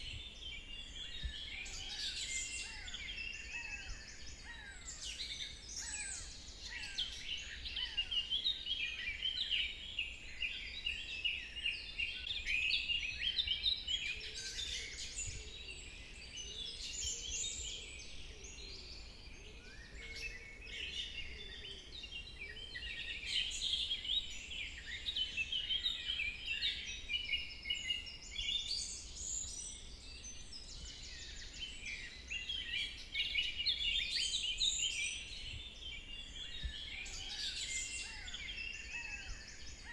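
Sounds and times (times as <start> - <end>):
bird chorus: 0.0 - 39.9.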